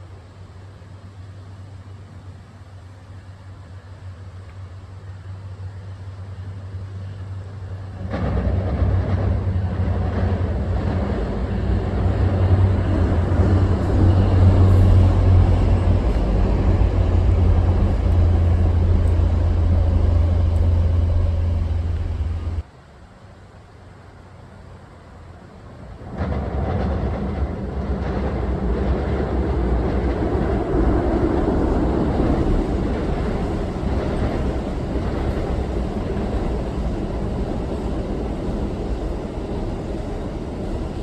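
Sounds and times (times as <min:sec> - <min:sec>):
diesel train passing: 0:00.0 - 0:41.0.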